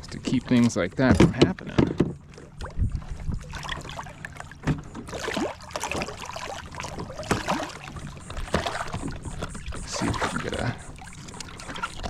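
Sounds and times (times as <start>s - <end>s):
water splashing against a kayak: 0.0s - 12.0s.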